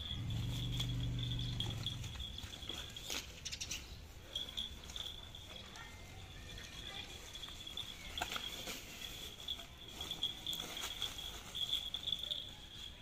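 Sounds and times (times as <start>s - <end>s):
dry grass rustling and crackling: 0.0s - 13.0s.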